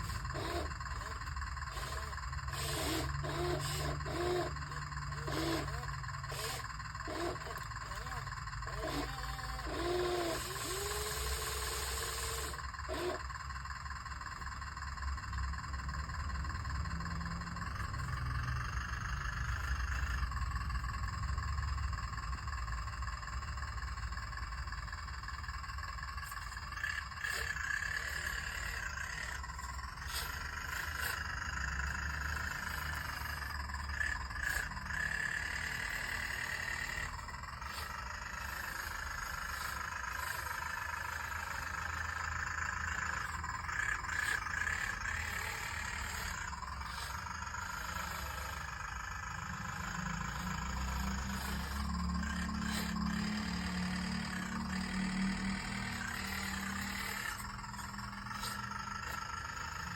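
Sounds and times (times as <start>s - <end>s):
electric motor and pump whining: 0.0s - 59.9s.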